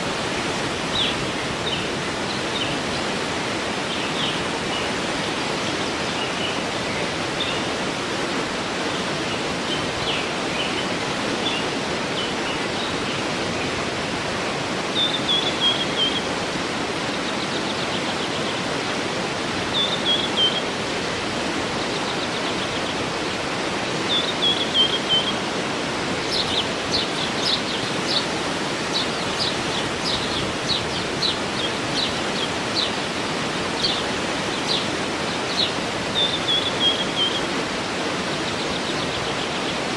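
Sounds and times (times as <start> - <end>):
birds singing: 0.0 - 13.9, 14.8 - 39.9
waterfall rushing: 0.0 - 39.9.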